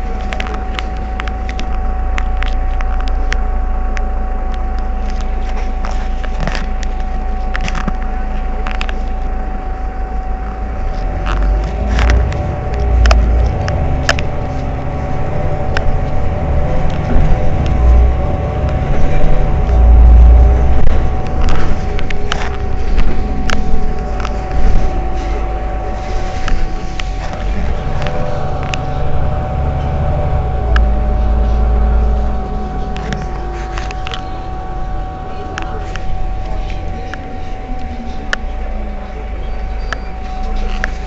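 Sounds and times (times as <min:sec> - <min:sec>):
bus engine idling: 0:00.0 - 0:41.0
heavy low rumbling: 0:00.0 - 0:41.0
thin whine: 0:00.0 - 0:41.0.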